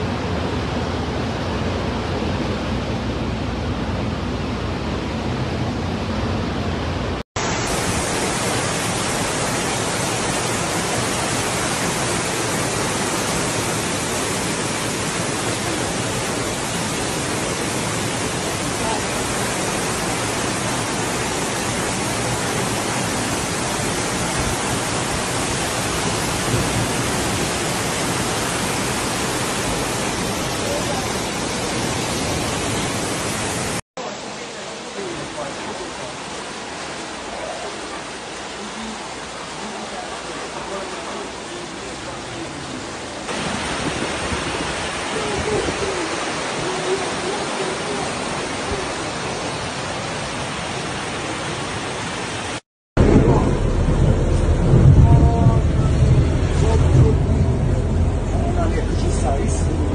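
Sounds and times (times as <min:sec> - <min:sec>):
bus pushing through floodwater: 0:00.0 - 0:59.9
heavy rain and rushing floodwater: 0:00.0 - 0:59.9.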